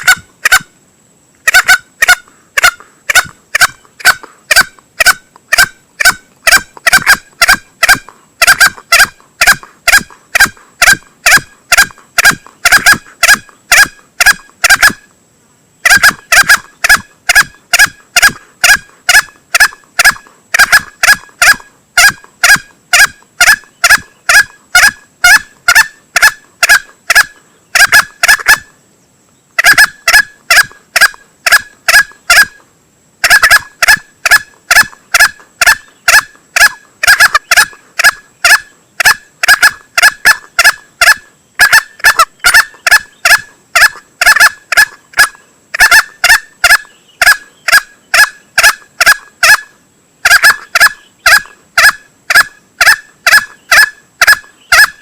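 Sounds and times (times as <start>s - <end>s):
junglefowl calls: 0.0s - 0.8s, 1.4s - 15.1s, 15.8s - 28.8s, 29.6s - 55.0s.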